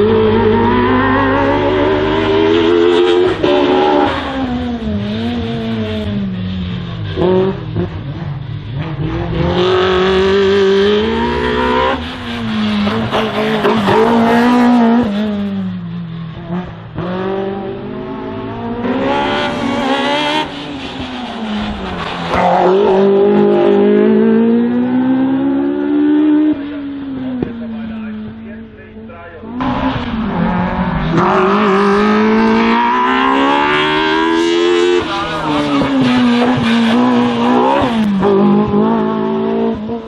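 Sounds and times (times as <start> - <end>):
race car engine revving: 0.0 - 40.0.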